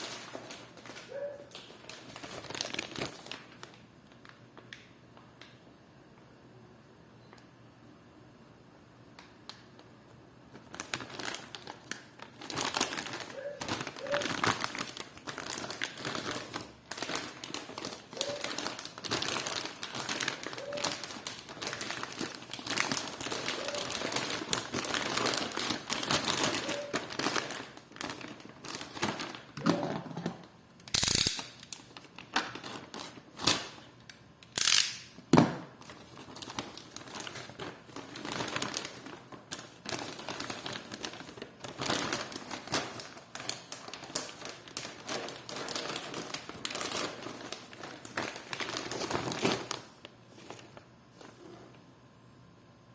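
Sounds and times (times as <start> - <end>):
packaging crackles: 0.0 - 5.6, 10.5 - 29.8, 30.9 - 35.1, 35.8 - 50.8
packaging crinkling and rustling: 0.0 - 5.6, 9.2 - 34.8, 35.6 - 51.4.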